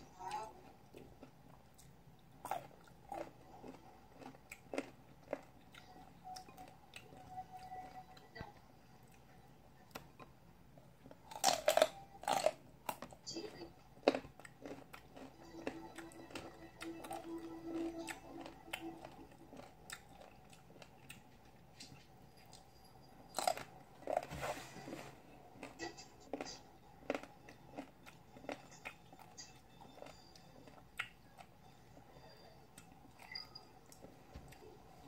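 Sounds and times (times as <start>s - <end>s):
crunchy chewing of mango: 0.5s - 8.0s, 9.9s - 13.2s, 14.0s - 22.6s, 23.3s - 34.8s.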